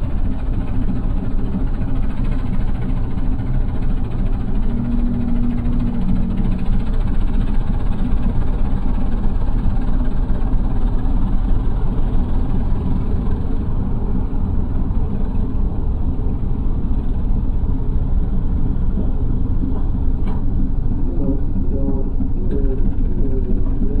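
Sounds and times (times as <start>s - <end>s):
diesel engines running under load: 0.0s - 24.0s.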